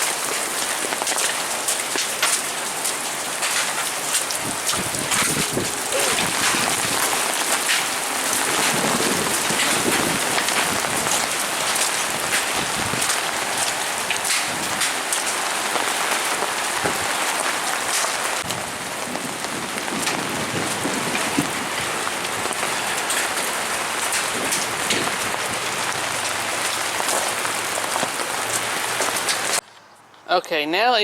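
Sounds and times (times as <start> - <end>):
hail striking hard surfaces: 0.0 - 29.6
heavy rain pouring: 0.0 - 29.6.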